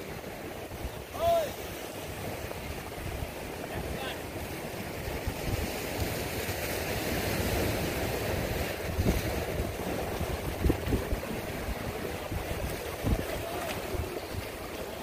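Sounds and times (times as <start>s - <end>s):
sea waves breaking against rocks: 0.0s - 15.0s
wind buffeting microphone: 0.0s - 15.0s.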